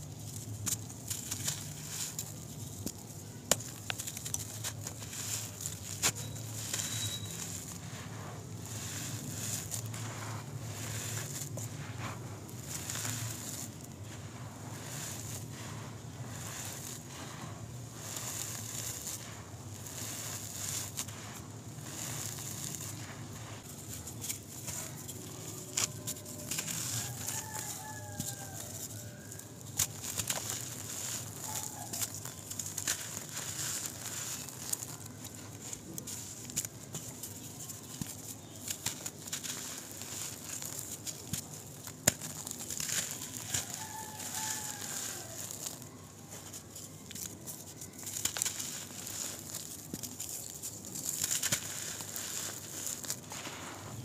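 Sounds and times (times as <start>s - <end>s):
dirt clods crunching in fingers: 0.0s - 54.0s.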